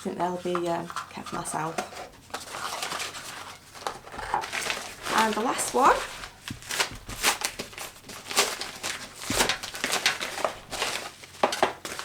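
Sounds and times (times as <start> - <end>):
packaging crinkling: 0.9 - 12.0.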